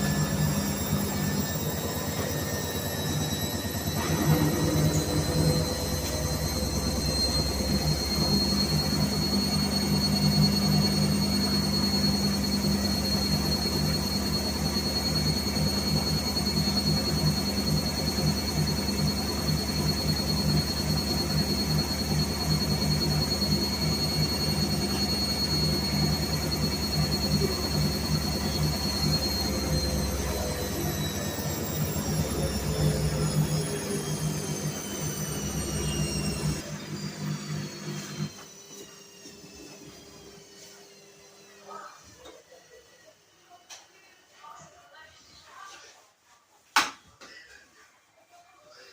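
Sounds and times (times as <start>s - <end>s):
washing machine whirring: 0.0s - 46.7s.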